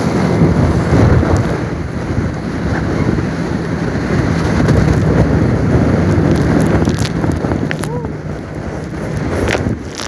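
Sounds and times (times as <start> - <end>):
low motor drone: 0.0 - 10.0
wind rushing over microphone: 0.0 - 10.0.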